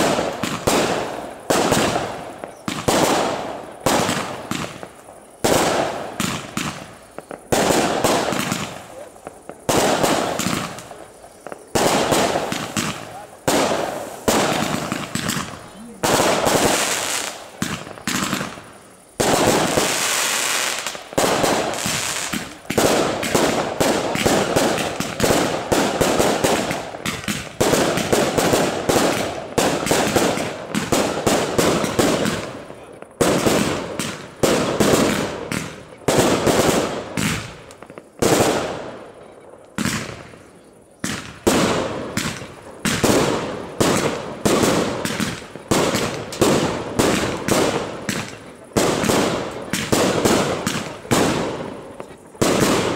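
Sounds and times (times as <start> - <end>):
fireworks bangs echoing: 0.0 - 52.9.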